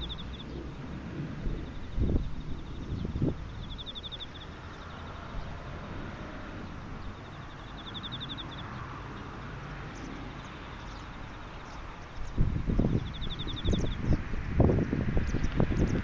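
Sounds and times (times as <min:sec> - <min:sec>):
faint steady trilling: 0:00.0 - 0:14.7
insects chirping: 0:00.0 - 0:16.0
wind rumbling on microphone: 0:00.0 - 0:16.0.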